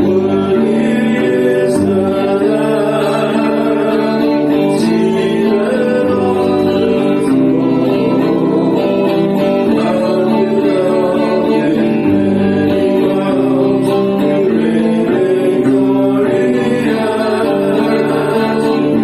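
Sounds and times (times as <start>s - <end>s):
acoustic guitar: 0.0s - 19.0s
person singing long notes: 0.0s - 19.0s.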